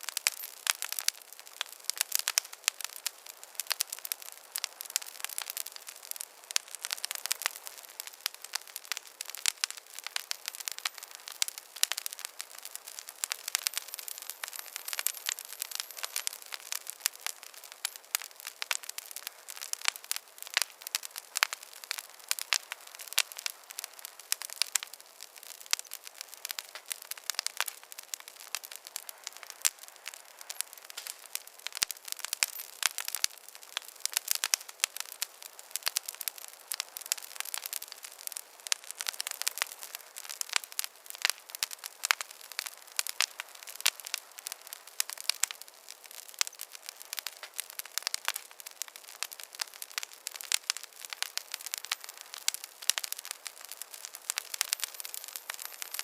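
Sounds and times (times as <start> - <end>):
soft hiss: 0.0 - 56.0
wood fire crackling: 0.0 - 56.0.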